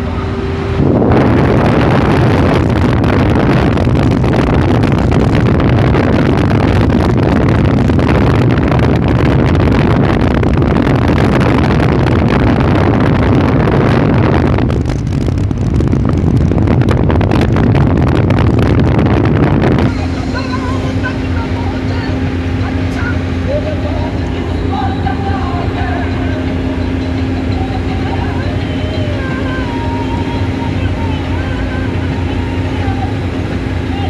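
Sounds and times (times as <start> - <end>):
motorcycle engine and road noise: 0.0 - 34.0
wind rushing over microphone: 0.0 - 34.0.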